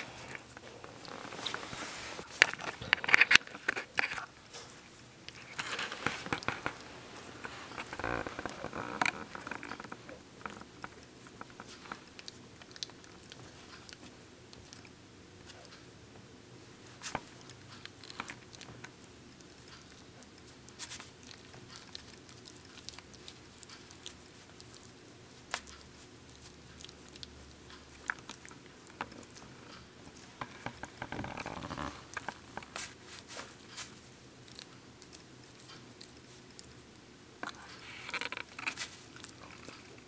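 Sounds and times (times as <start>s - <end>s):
puppy chewing toy: 0.0s - 15.9s, 16.7s - 40.0s.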